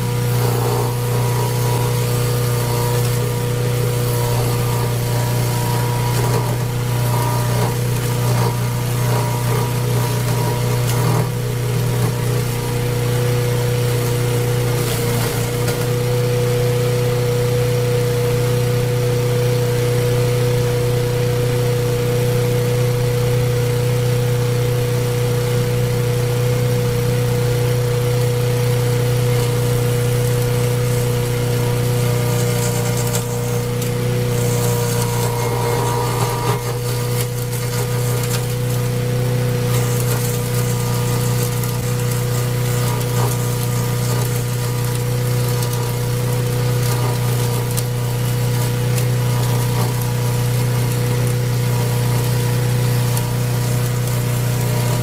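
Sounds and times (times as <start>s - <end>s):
wood chipper engine droning: 0.0s - 55.0s.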